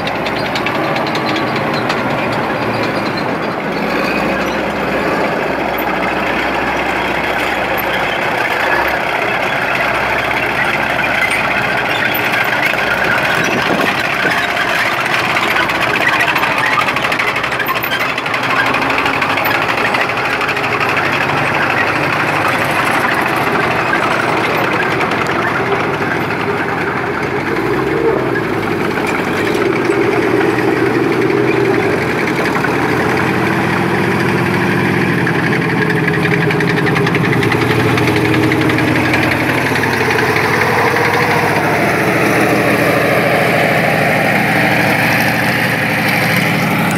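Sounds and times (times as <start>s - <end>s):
armoured vehicle engines passing: 0.0s - 46.9s.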